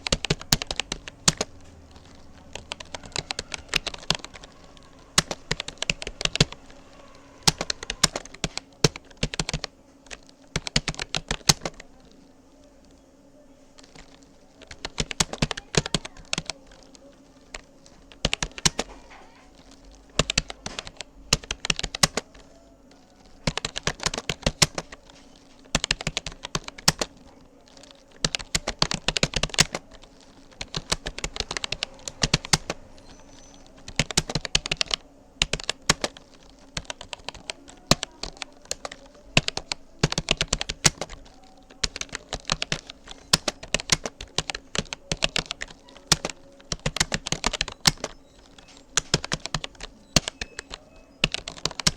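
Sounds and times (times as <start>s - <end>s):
keyboard typing: 0.0s - 51.9s.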